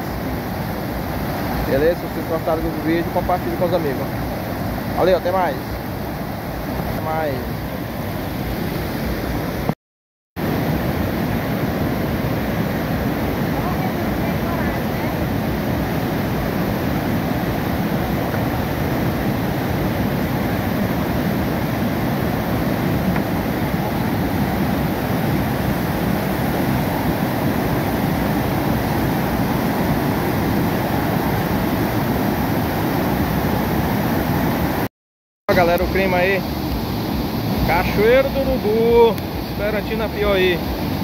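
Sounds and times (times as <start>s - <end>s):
waterfall rushing: 0.0s - 7.5s, 10.4s - 34.9s, 35.5s - 41.0s.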